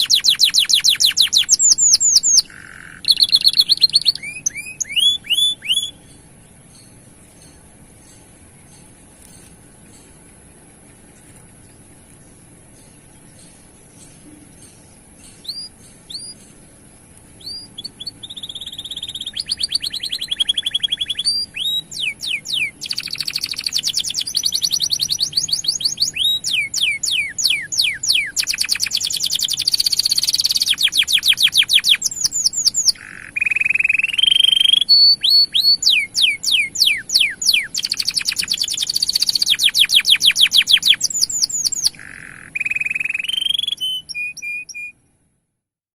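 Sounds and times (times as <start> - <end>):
canary singing trills: 0.0 - 45.0.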